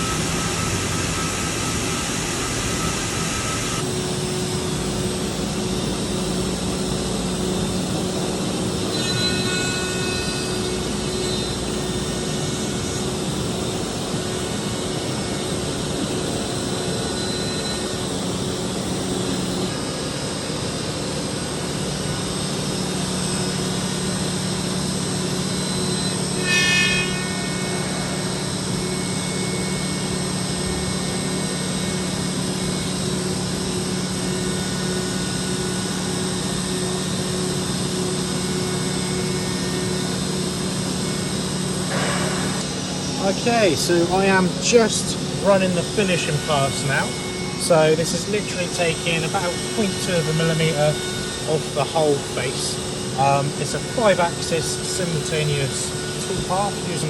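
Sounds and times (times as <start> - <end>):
milling machine whine and hum: 0.0 - 57.0.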